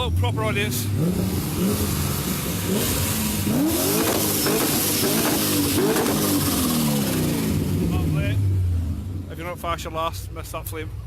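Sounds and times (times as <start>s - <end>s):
car engine revving hard: 0.0s - 9.9s.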